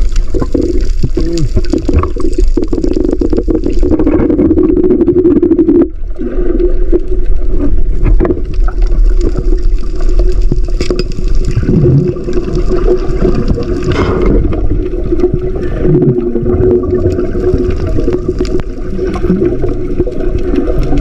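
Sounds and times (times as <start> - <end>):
small clicks underwater: 0.0 - 4.8, 6.9 - 16.2, 16.8 - 21.0
water sloshing and gurgling: 0.0 - 21.0.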